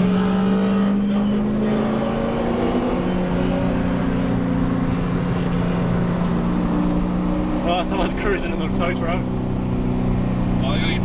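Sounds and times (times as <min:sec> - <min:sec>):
car engine at steady revs: 0:00.0 - 0:11.0.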